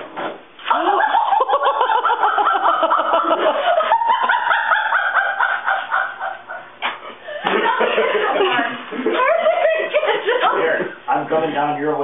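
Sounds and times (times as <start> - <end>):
people laughing hard: 0.7 - 11.0.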